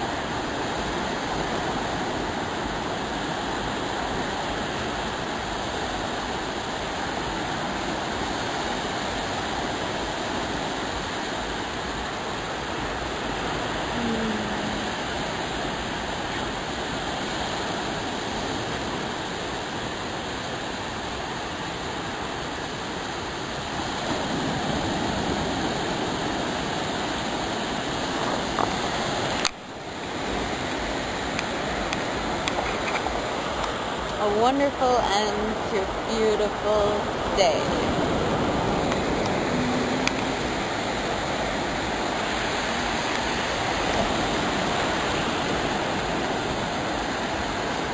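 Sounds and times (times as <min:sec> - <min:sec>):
small waves washing on sand: 0:00.0 - 0:47.9.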